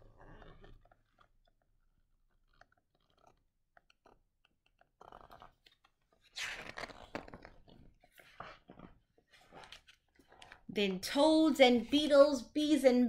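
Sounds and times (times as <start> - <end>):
book pages rustling: 0.0 - 10.7.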